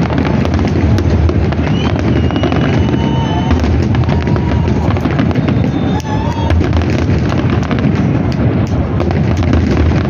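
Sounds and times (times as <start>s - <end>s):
fireworks booming and crackling: 0.0s - 10.0s.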